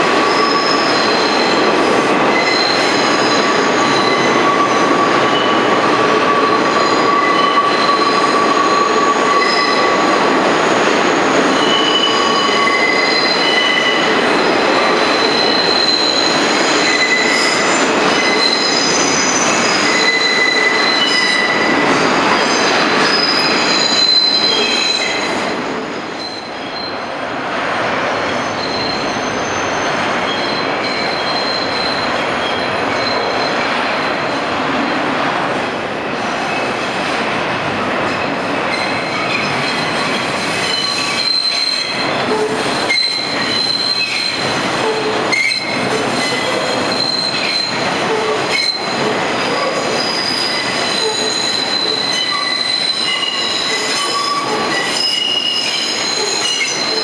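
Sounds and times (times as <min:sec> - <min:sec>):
train wheels squealing on curve: 0:00.0 - 0:27.1, 0:28.2 - 0:34.4, 0:38.2 - 0:57.0
train cars rumbling on rails: 0:00.0 - 0:57.0.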